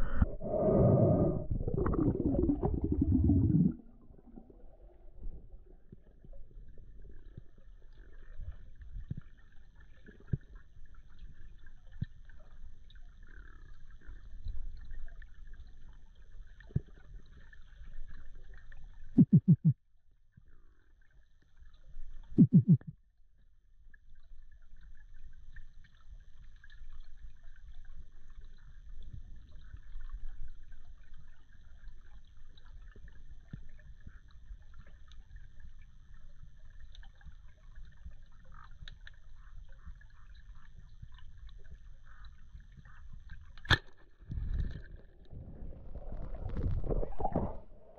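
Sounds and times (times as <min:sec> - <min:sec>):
underwater rumble: 0:00.0 - 0:19.7, 0:24.2 - 0:47.9.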